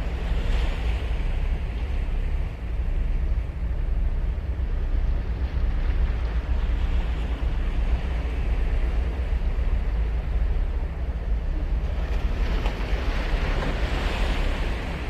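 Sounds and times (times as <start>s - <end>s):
ocean waves washing: 0.0s - 15.0s.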